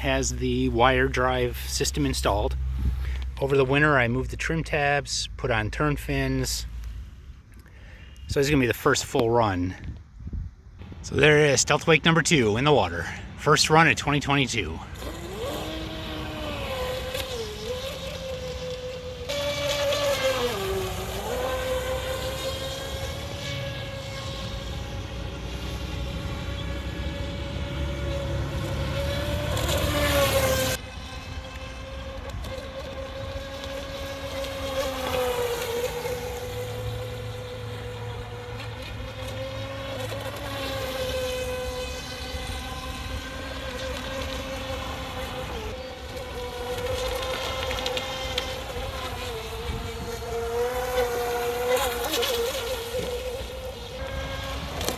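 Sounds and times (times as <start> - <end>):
rc boat motor whining: 0.0 - 54.9.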